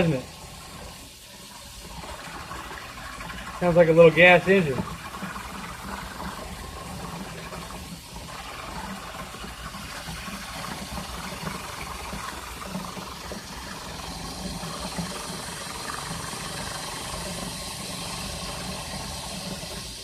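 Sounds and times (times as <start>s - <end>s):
tap water hissing: 0.0s - 20.0s.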